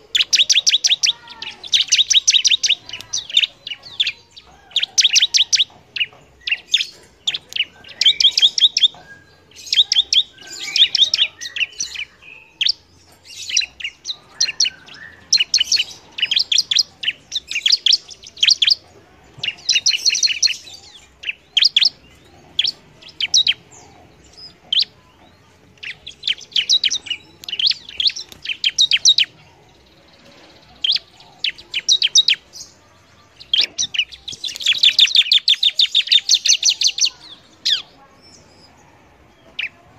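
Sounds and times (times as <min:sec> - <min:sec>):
bird chirping rapidly: 0:00.0 - 0:38.6.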